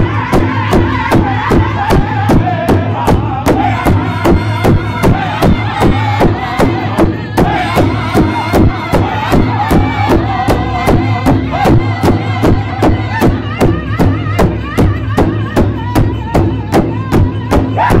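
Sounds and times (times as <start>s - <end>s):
large drum steady beat: 0.0s - 18.0s
men singing high wavering voices: 0.0s - 18.0s.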